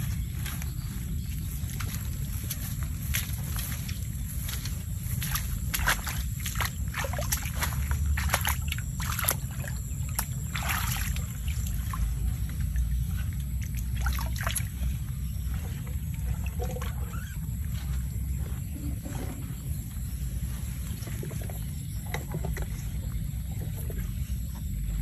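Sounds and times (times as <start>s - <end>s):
muddy water splashing: 0.0s - 25.0s
steady low rumble: 0.0s - 25.0s.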